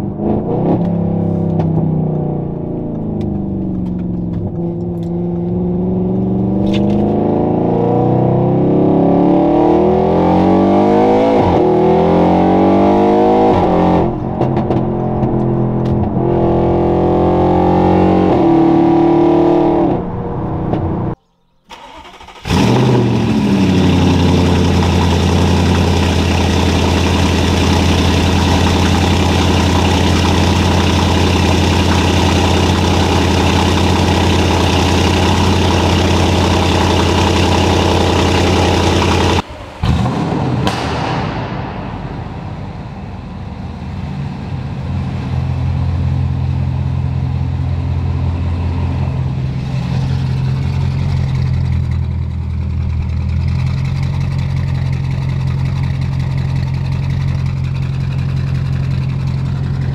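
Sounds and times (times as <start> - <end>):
car engine accelerating hard: 0.0 - 41.2, 42.2 - 59.9.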